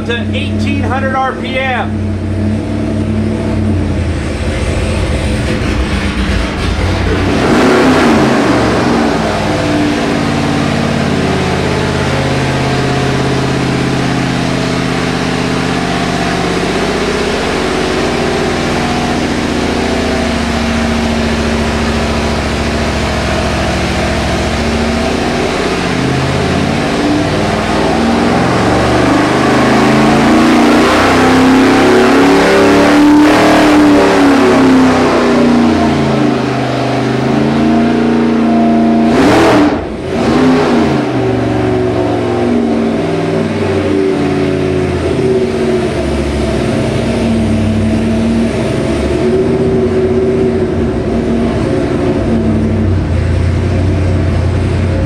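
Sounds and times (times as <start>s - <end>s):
engine revving up: 0.0s - 55.0s
engine running under load: 0.0s - 55.0s.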